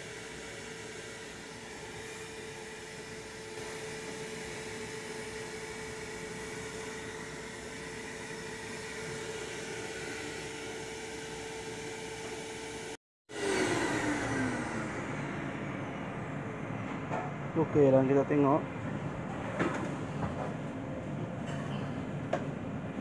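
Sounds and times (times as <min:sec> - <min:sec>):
vacuum cleaner running: 0:00.0 - 0:18.6.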